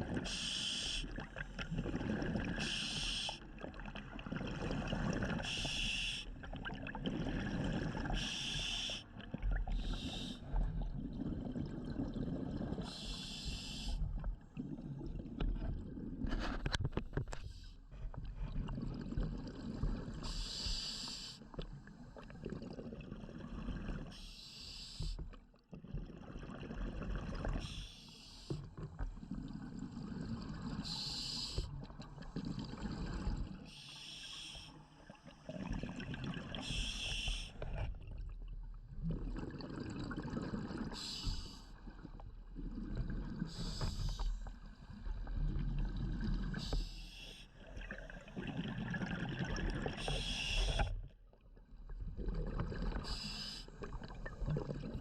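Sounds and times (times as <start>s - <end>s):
exhaled bubbles hissing: 0.0s - 16.6s, 17.4s - 25.2s, 25.9s - 51.0s, 51.9s - 55.0s.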